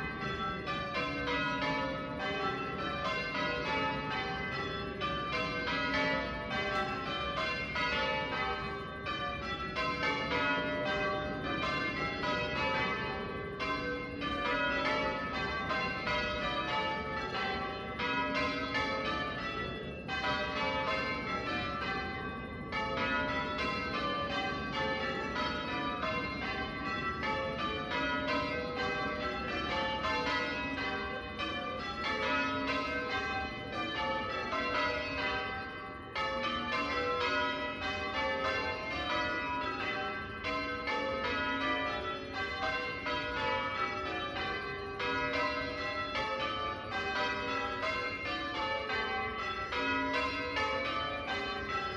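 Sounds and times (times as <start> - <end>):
church bells change ringing: 0.0 - 51.9.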